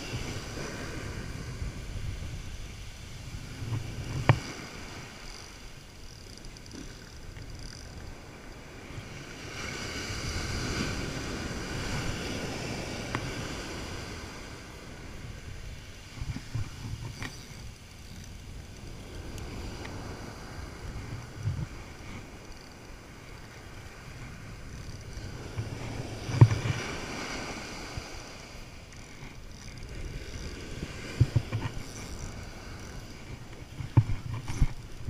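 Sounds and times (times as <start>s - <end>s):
ocean surf washing on sand: 0.0s - 5.9s, 8.0s - 35.0s
wind rumbling on microphone: 0.0s - 35.0s.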